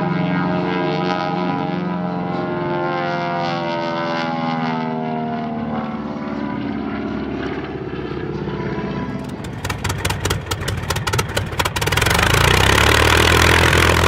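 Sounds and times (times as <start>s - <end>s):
propeller airplane flying past: 0.0s - 14.0s.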